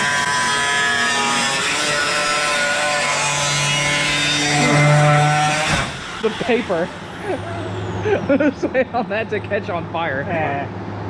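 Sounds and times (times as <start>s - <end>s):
angle grinder cutting sheet metal: 0.0s - 9.8s.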